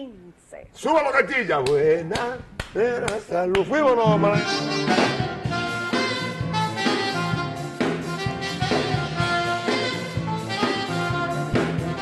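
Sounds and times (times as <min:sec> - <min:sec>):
upbeat jazzy band music: 0:02.1 - 0:12.0.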